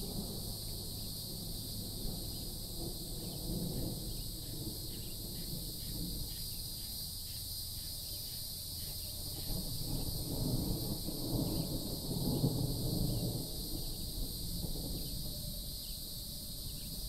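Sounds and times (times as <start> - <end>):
insects droning: 0.0 - 17.0
wind rumble on microphone: 0.0 - 17.0.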